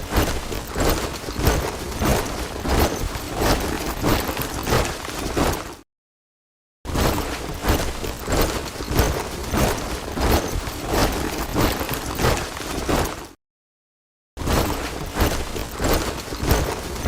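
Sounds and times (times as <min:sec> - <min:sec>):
soldiers marching in step: 0:00.0 - 0:05.8, 0:07.1 - 0:13.4, 0:14.6 - 0:17.0.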